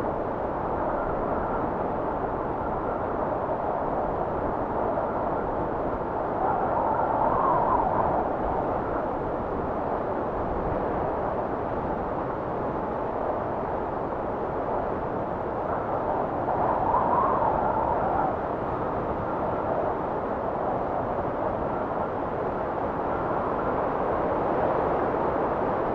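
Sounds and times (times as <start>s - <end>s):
strong blizzard wind howling: 0.0s - 25.9s.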